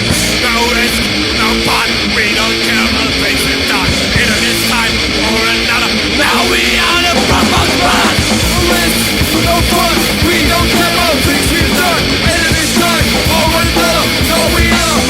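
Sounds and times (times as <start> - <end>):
loud punk band playing: 0.0 - 15.0
shouted vocals: 0.0 - 15.0.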